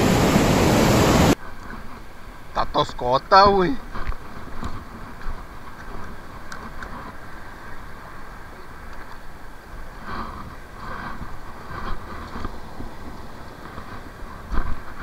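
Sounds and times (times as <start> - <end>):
surf on rocky shore: 0.0 - 15.0
wind: 0.0 - 15.0.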